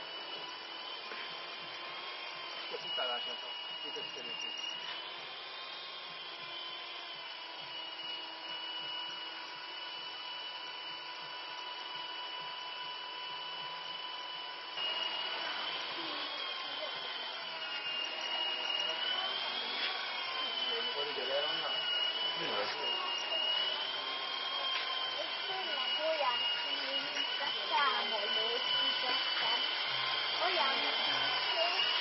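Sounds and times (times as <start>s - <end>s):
model helicopter whine: 0.0s - 32.0s.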